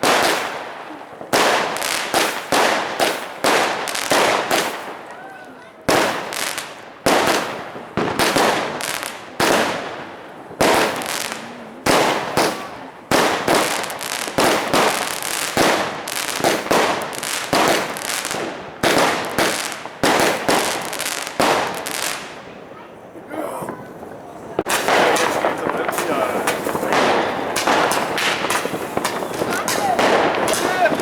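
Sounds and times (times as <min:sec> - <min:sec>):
fireworks banging and crackling: 0:00.0 - 0:31.0.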